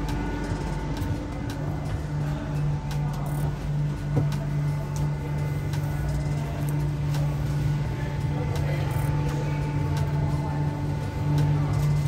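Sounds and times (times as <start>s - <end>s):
gondola machinery humming: 0.0s - 12.0s.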